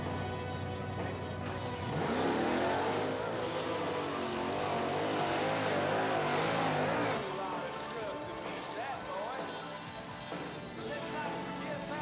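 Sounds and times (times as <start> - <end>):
monster truck engines revving: 1.6 - 12.0.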